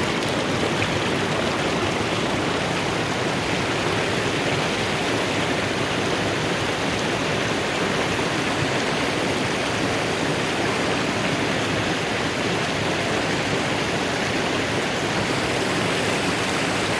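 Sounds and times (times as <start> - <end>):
mountain river rushing: 0.0 - 16.9.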